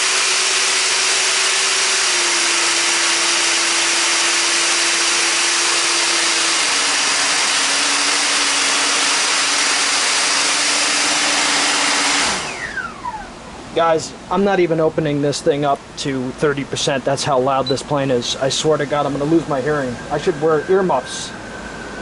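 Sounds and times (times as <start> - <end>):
electric ducted fan whining: 0.0 - 22.0.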